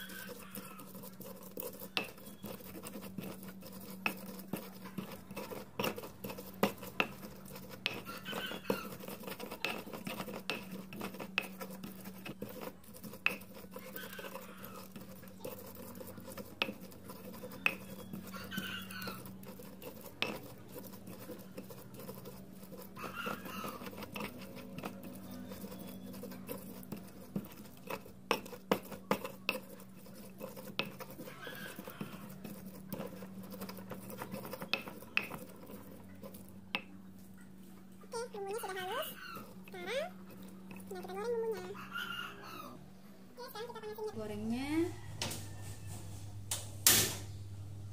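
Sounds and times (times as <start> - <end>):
stone pestle grinding paste: 0.0 - 42.8.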